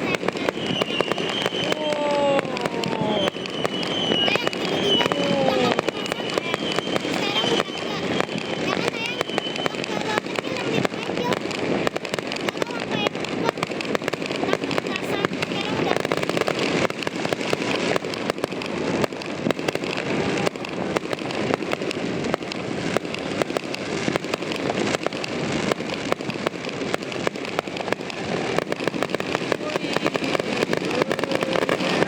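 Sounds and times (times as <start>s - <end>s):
fireworks crackling and banging: 0.0s - 32.0s.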